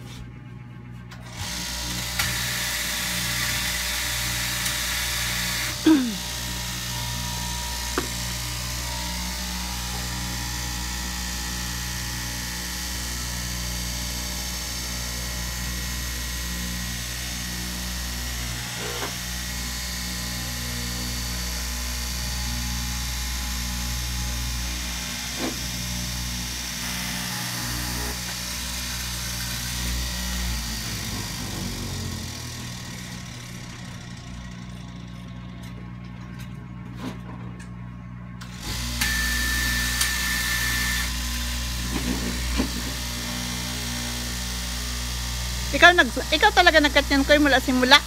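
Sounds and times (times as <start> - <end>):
cloth cutting machine running: 0.9 - 48.0.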